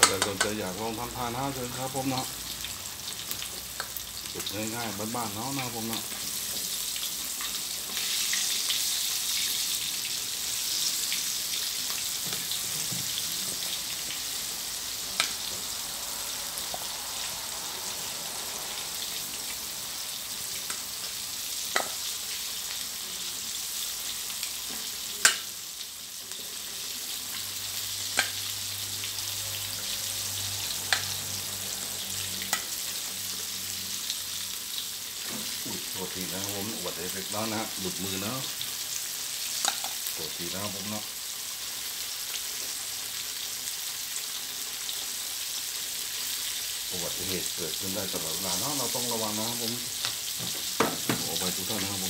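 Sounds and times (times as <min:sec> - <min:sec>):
oil sizzling in a wok: 0:00.0 - 0:52.0.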